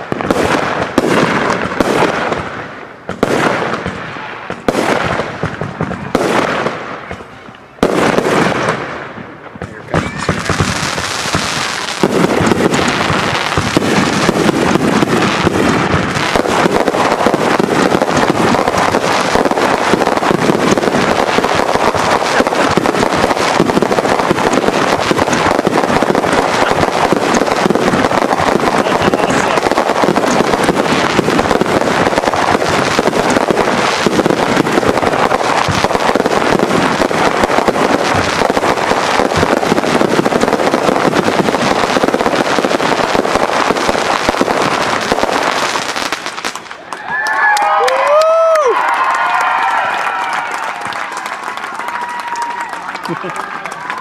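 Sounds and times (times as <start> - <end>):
firework crackling bursts: 0.0 - 54.0.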